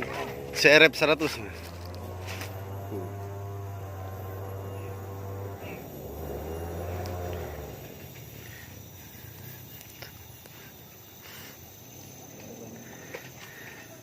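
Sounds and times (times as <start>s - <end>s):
low hum: 0.0s - 13.0s
insects buzzing: 0.0s - 14.0s.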